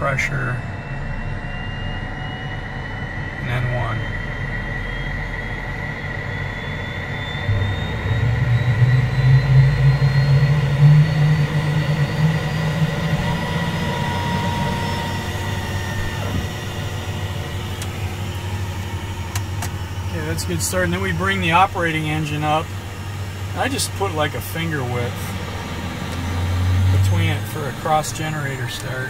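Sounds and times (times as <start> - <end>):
jet engine turbine whine: 0.0 - 29.0
low engine rumble: 0.0 - 29.0
steady high tone: 0.0 - 29.0.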